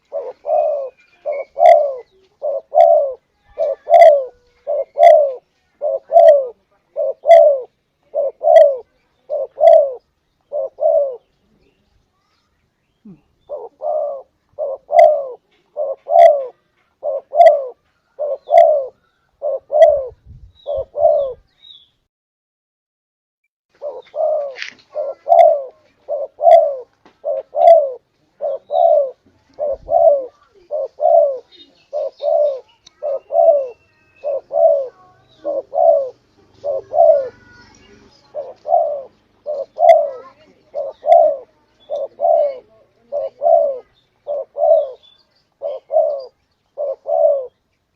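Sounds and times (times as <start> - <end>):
dove cooing: 0.0 - 11.4, 13.1 - 21.5, 23.8 - 47.6.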